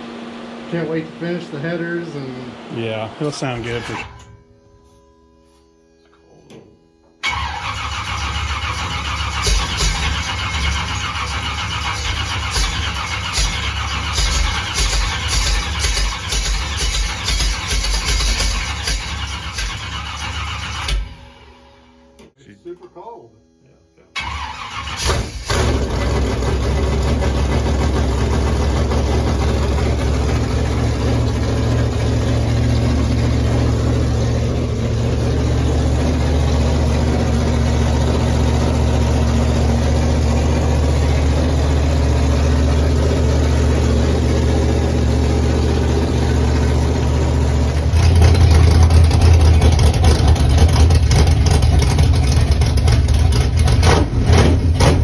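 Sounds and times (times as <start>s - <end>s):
car engine idling: 0.0s - 4.3s, 7.2s - 21.5s, 24.2s - 55.0s.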